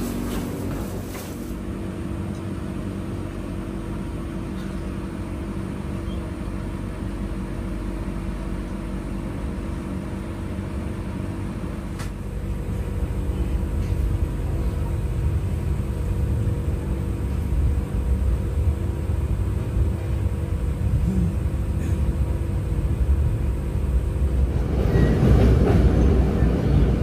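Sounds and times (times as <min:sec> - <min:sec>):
train coach droning hum: 0:00.0 - 0:27.0.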